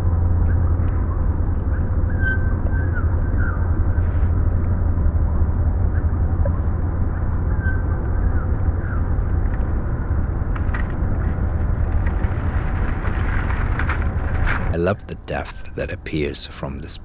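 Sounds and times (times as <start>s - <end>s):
dark pitched-down rumble: 0.0s - 17.0s.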